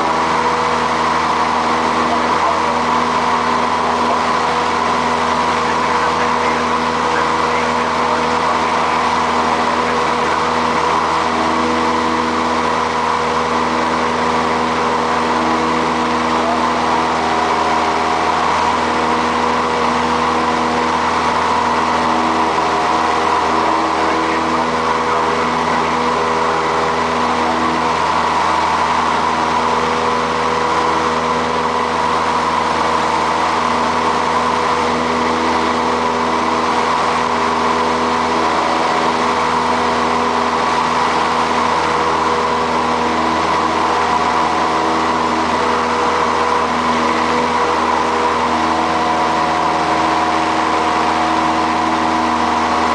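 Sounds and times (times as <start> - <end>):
aircraft engine and propeller droning: 0.0 - 52.9.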